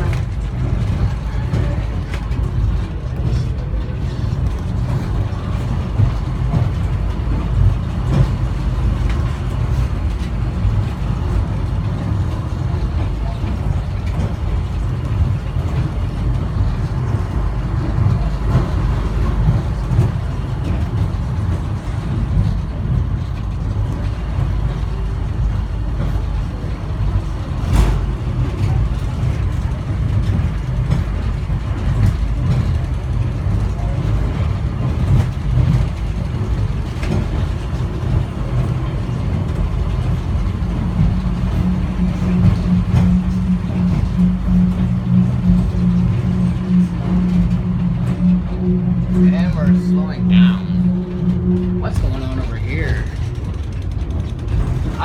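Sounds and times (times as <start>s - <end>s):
low hum: 0.0s - 55.0s
train rumbling: 0.0s - 55.0s.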